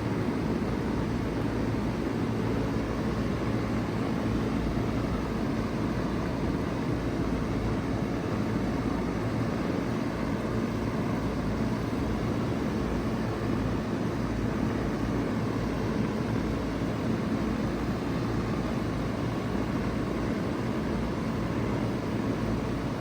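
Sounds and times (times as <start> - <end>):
heat pump hum: 0.0 - 23.0.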